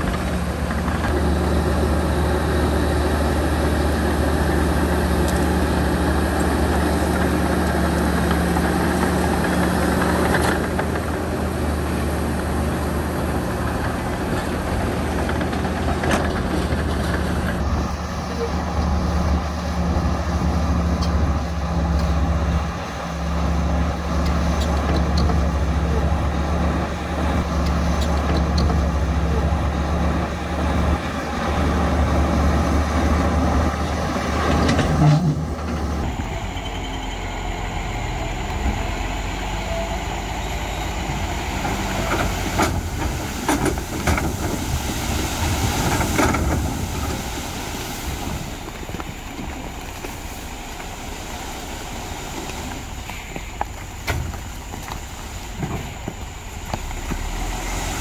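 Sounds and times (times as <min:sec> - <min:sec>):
heavy diesel machinery drone: 0:00.0 - 0:58.0.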